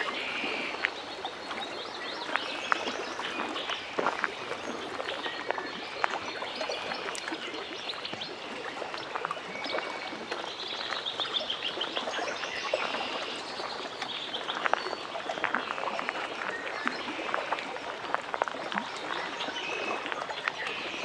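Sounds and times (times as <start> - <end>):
small splashes and drips: 0.0 - 21.0
water lapping at shore: 0.0 - 21.0.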